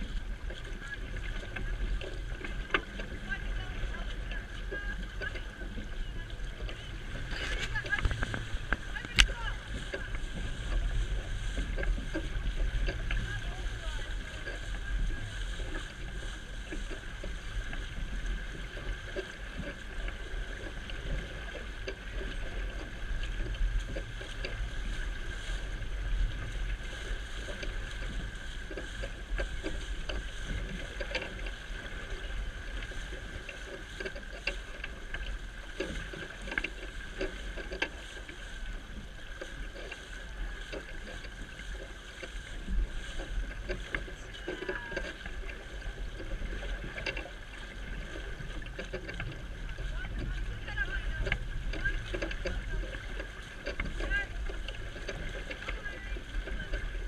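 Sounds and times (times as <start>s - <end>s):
water rushing and splashing: 0.0s - 57.0s
wind rumbling on microphone: 0.0s - 57.0s.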